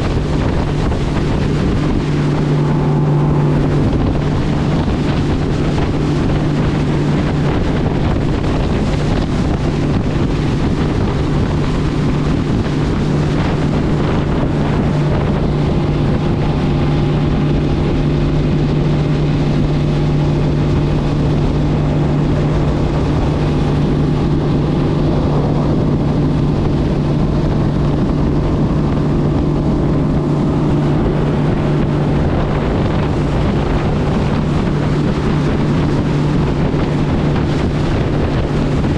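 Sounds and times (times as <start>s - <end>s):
motorboat engine humming: 0.0s - 38.9s
wind buffeting microphone: 0.0s - 38.9s.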